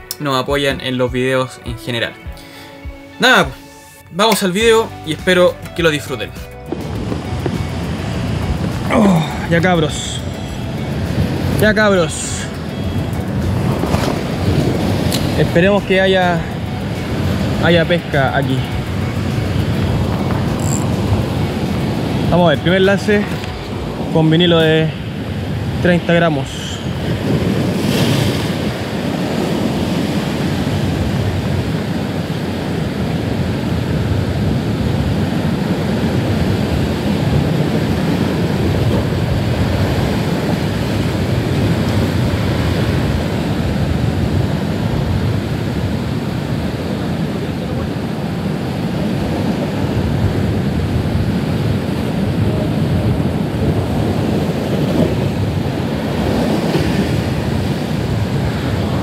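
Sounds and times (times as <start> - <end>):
ocean surf washing on shore: 4.2 - 59.0
wind rumbling on microphone: 6.4 - 59.0.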